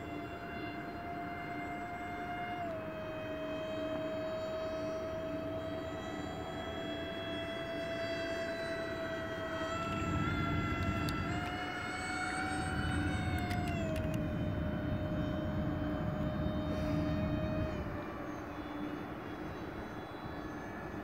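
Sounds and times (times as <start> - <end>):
electric fan motors whining: 0.0 - 21.0.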